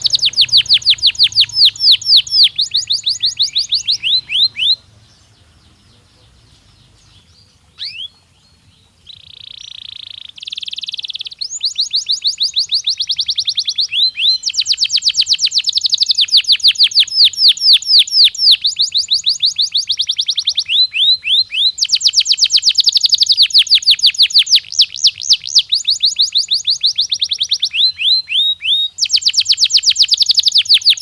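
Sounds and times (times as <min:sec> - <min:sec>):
canary singing: 0:00.0 - 0:31.0.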